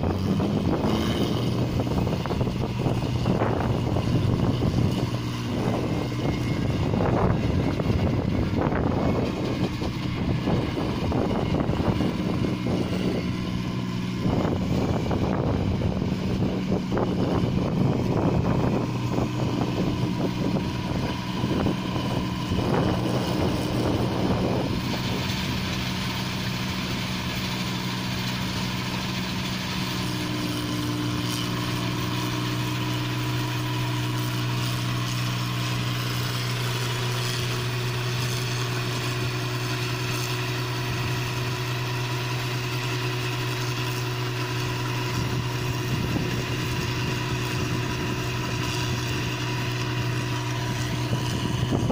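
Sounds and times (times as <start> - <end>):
combine harvester engine hum: 0.0 - 51.9.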